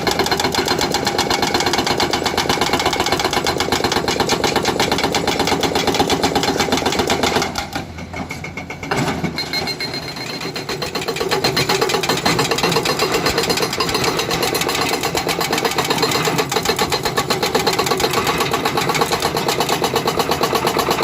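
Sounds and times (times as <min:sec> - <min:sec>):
excavator engine: 0:00.0 - 0:21.0
hydraulic breaker hammering rock: 0:00.0 - 0:21.0.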